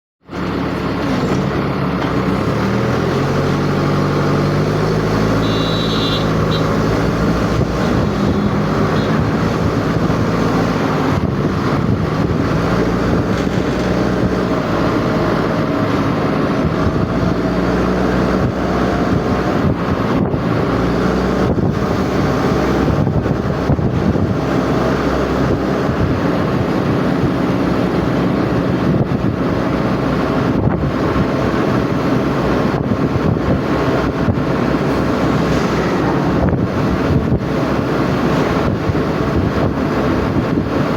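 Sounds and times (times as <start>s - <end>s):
vehicle engine running: 0.2s - 40.9s.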